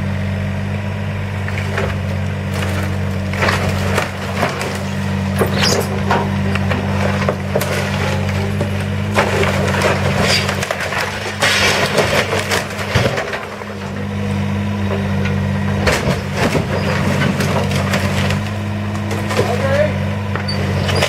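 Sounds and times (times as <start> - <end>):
machine engine humming: 0.0 - 21.0
timber cracking and splintering: 1.6 - 14.1, 15.7 - 21.0.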